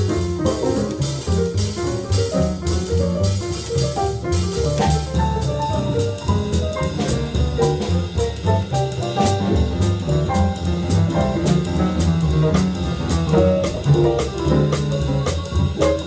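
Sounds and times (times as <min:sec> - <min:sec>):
drums and cymbals: 0:00.0 - 0:16.0
jazz combo playing swing: 0:00.0 - 0:16.0
upright bass walking line: 0:00.0 - 0:16.0.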